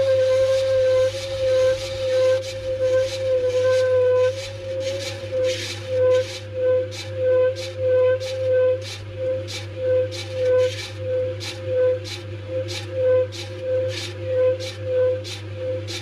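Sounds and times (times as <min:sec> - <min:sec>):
whistle-like tone: 0:00.0 - 0:15.8.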